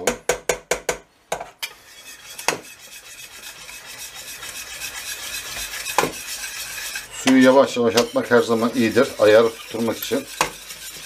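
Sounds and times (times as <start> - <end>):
spoon scraping stirring batter: 1.6 - 11.0.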